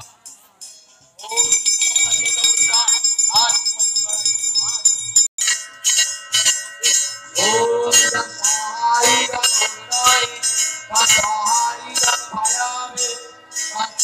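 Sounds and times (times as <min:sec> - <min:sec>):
music with steady beat and melody: 0:00.0 - 0:03.9, 0:04.6 - 0:14.0.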